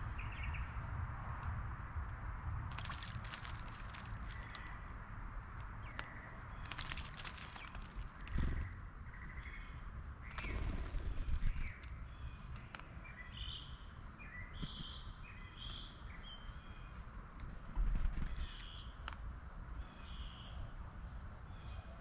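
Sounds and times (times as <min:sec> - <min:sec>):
outdoor background noise: 0:00.0 - 0:22.0
songbirds chirping: 0:00.0 - 0:22.0.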